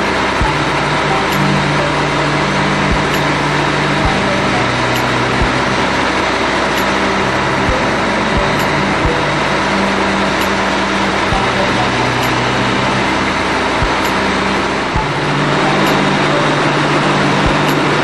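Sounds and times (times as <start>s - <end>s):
industrial machinery noise: 0.0s - 18.0s.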